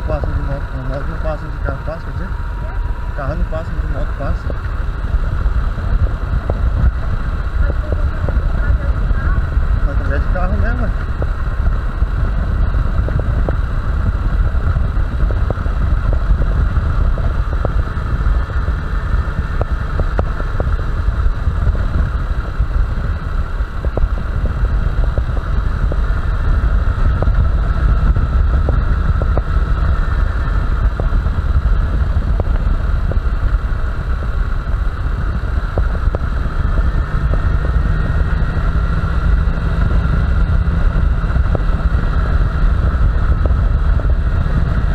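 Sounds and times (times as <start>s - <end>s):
motorcycle engine running: 0.0s - 44.9s
wind rush on microphone: 0.0s - 44.9s.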